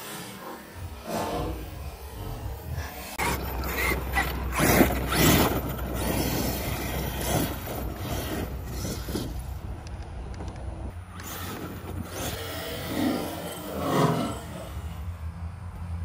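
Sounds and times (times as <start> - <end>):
rc truck driving: 0.0 - 16.0
tyre noise: 0.8 - 14.8.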